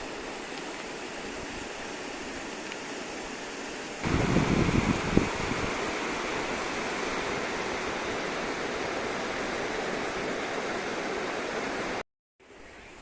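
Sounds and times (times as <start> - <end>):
rushing flowing water: 0.0 - 12.0.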